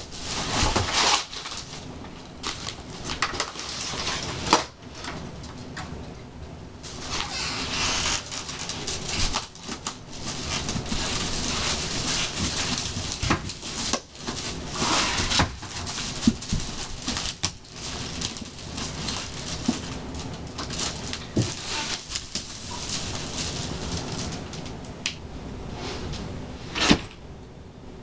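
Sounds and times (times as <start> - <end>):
wicker basket creaking: 0.0 - 5.7, 6.8 - 25.0
rustling: 0.0 - 6.1, 6.8 - 25.0.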